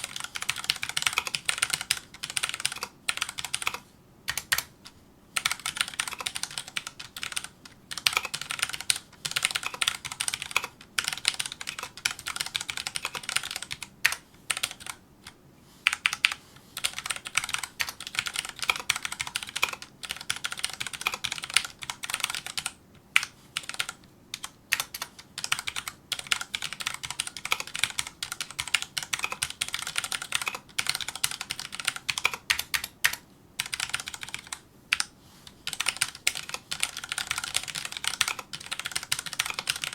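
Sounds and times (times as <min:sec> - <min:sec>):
mechanical keyboard typing: 0:00.0 - 0:04.7, 0:05.4 - 0:35.1, 0:35.7 - 0:39.9.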